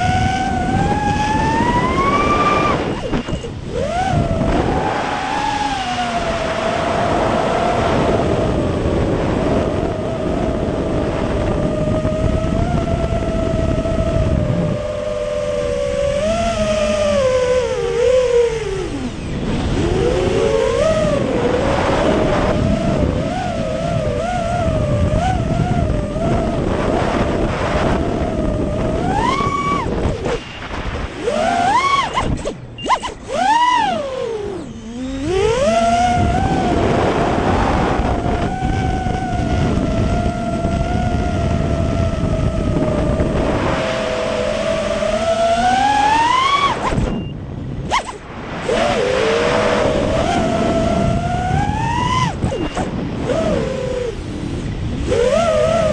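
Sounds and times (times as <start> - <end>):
drone motors whining: 0.0 - 55.9.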